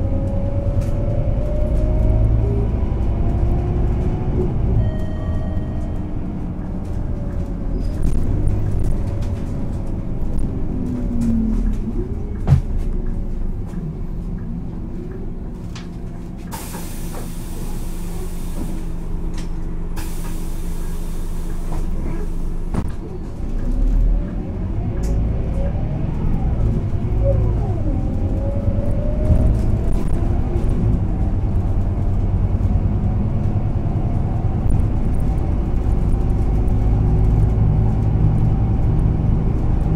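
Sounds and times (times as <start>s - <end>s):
bus diesel engine driving: 0.0s - 39.9s.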